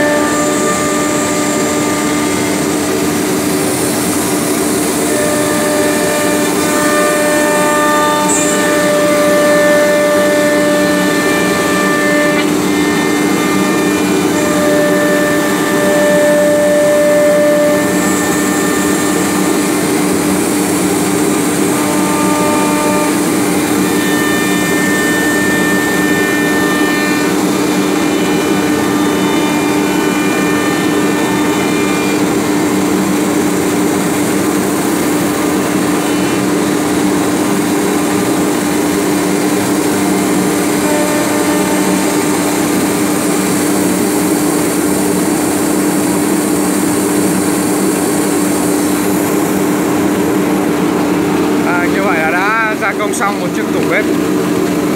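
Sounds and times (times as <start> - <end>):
cnc router cutting wood: 0.0 - 54.9
high whining cutter tones: 0.0 - 54.9.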